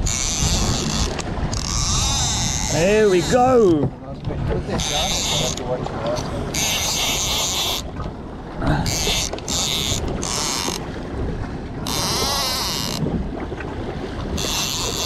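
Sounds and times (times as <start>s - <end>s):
wind buffeting microphone: 0.0s - 6.6s, 7.3s - 15.0s.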